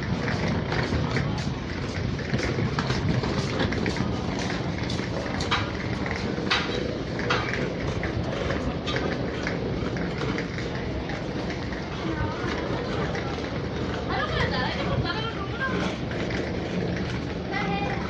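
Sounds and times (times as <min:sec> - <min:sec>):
suitcases rolling over tiles: 0:00.0 - 0:18.0.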